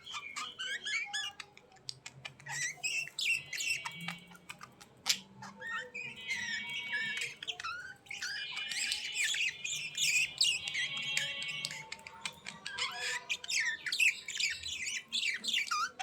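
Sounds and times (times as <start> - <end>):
small birds chirping and squawking: 0.0 - 16.0.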